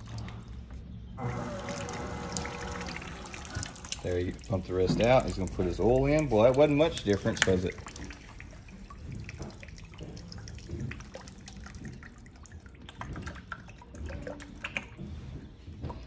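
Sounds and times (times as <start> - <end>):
oil pouring into plastic tank: 0.0 - 15.0.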